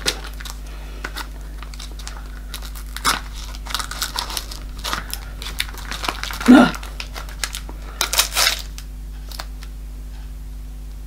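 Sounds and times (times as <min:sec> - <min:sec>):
paper crinkling and tearing: 0:00.0 - 0:09.7.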